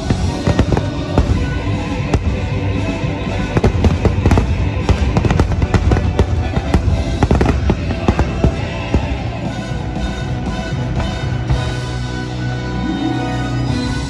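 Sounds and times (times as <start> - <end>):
fireworks bangs and crackles: 0.0 - 11.8
music playing: 0.0 - 14.0.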